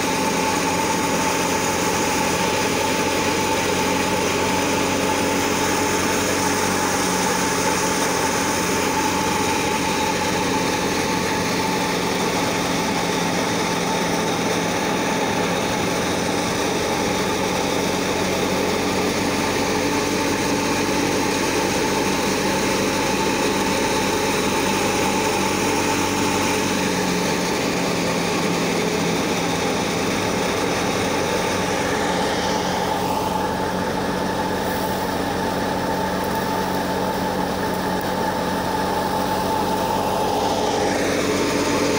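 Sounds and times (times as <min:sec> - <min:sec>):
thresher drone and hiss: 0:00.0 - 0:41.9.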